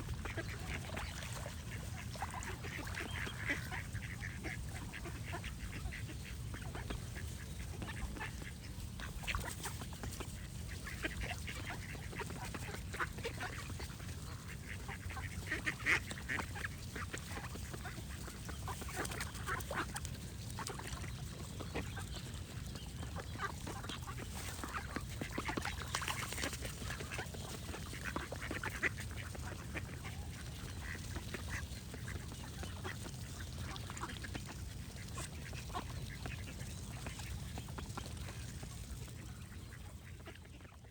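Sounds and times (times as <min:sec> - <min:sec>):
ducks quacking: 0:00.0 - 0:40.9
birds singing: 0:02.3 - 0:40.9.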